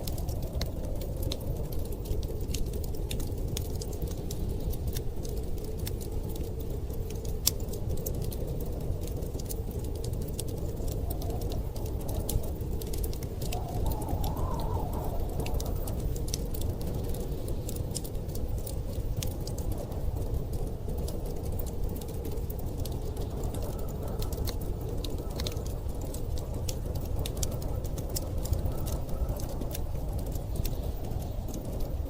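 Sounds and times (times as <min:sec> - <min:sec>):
blizzard wind rumble: 0:00.0 - 0:32.0
wood fire crackling: 0:00.0 - 0:32.0.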